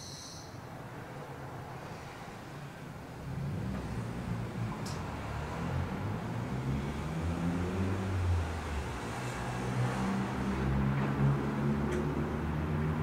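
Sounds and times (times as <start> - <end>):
road noise hiss: 0.0 - 13.0
vehicle engine humming past: 0.9 - 13.0.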